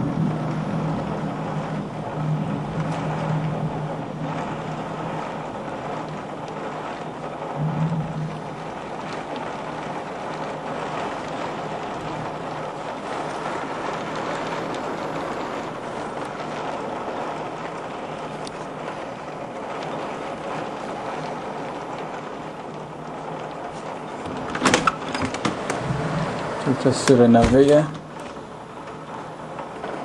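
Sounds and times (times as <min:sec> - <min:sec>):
rain tapping on glass: 0:00.0 - 0:30.0
storm wind and downpour: 0:00.0 - 0:30.0.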